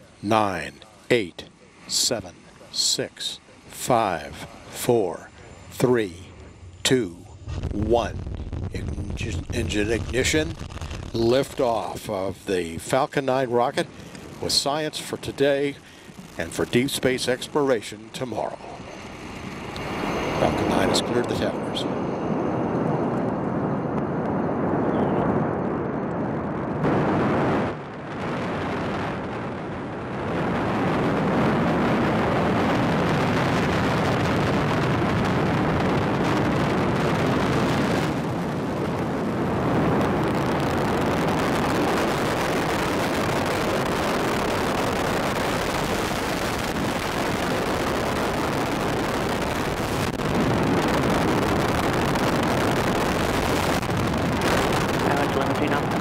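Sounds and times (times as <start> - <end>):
rocket exhaust rumble: 3.2 - 56.0.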